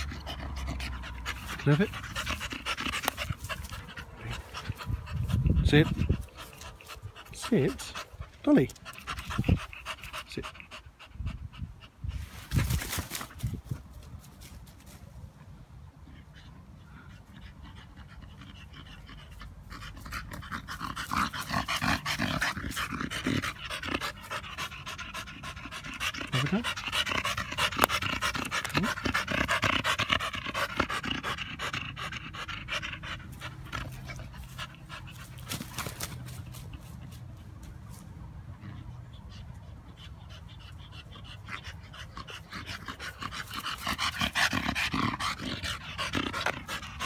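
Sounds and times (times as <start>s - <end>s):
dog panting: 0.0s - 12.2s, 16.0s - 37.8s, 38.5s - 47.0s.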